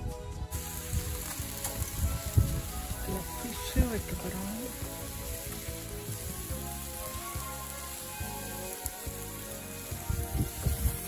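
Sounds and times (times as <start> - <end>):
skewers sizzling on grill: 0.0 - 11.0.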